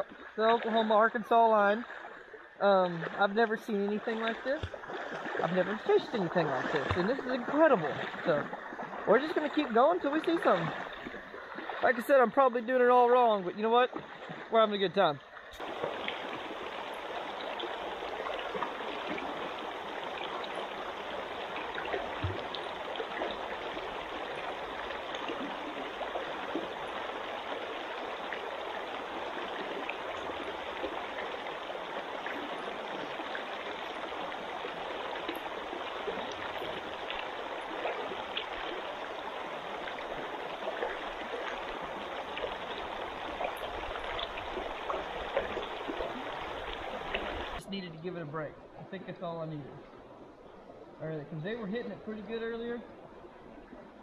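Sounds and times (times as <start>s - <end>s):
stream water running: 0.0s - 54.0s.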